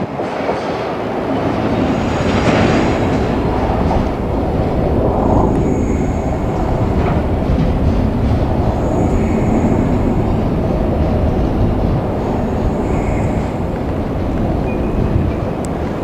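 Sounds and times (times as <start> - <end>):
train wheels rumbling on rail: 0.0 - 16.0
high whine from wheels: 1.1 - 16.0.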